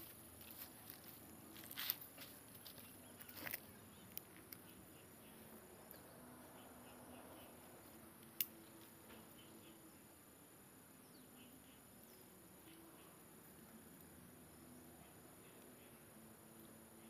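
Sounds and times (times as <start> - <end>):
high-pitched insect hum: 0.0 - 17.0.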